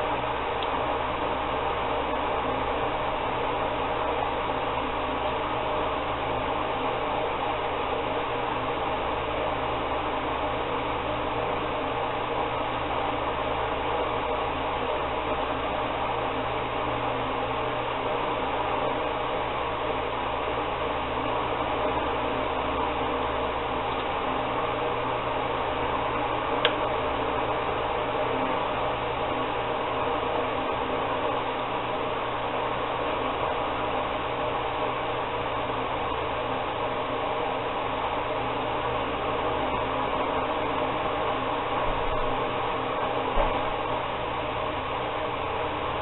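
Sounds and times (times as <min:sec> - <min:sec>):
steady hum and hiss: 0:00.0 - 0:46.0.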